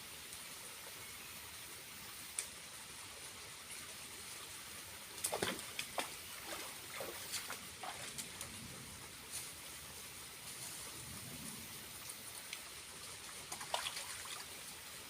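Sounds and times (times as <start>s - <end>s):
sharp drips and splashes: 1.9s - 11.0s, 11.6s - 15.0s.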